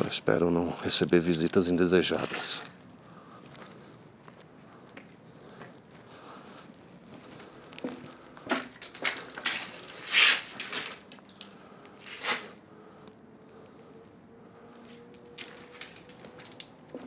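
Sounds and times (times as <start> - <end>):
footsteps on gritty concrete: 0.2 - 12.6, 14.8 - 17.0.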